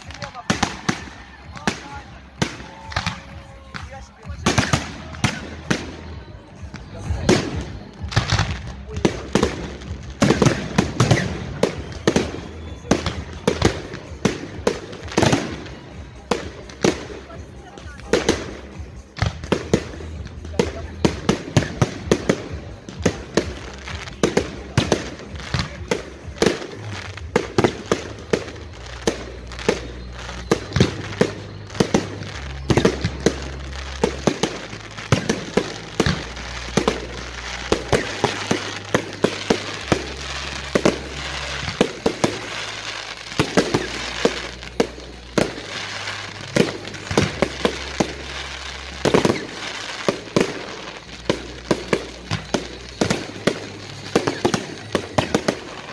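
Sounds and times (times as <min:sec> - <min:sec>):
fireworks crackling: 0:00.0 - 0:55.9.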